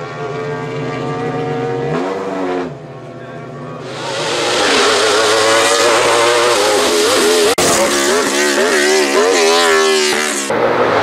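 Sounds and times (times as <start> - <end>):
racing engine at high revs: 0.0 - 3.2, 3.8 - 11.0.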